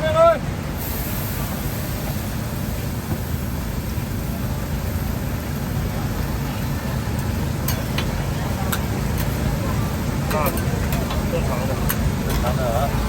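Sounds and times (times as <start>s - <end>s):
busy night market background noise: 0.0s - 13.0s.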